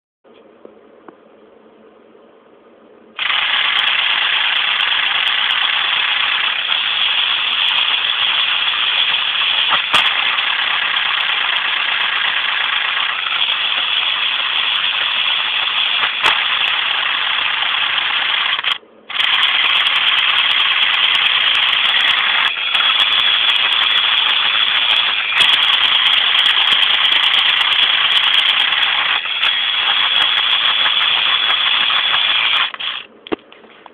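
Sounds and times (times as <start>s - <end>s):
plastic gears rattling: 3.2s - 33.1s.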